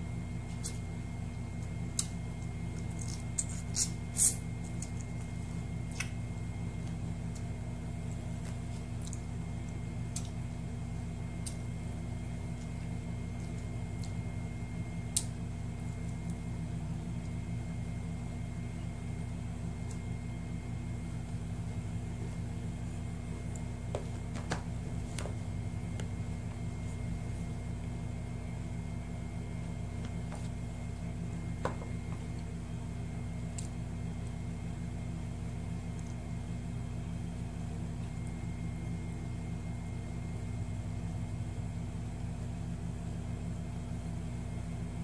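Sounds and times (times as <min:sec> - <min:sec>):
appliance humming: 0:00.0 - 0:45.0.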